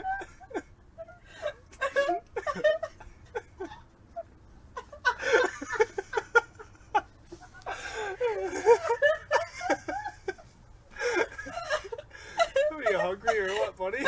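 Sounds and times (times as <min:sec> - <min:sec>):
people laughing: 0:00.0 - 0:14.0.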